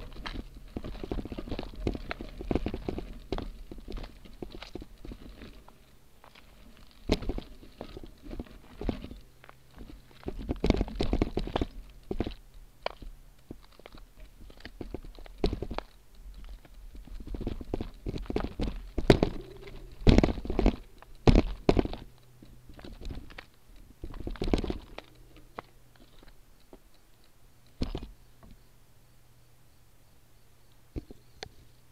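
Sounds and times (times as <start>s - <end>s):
bike tyres crunching on gravel: 0.0s - 26.4s.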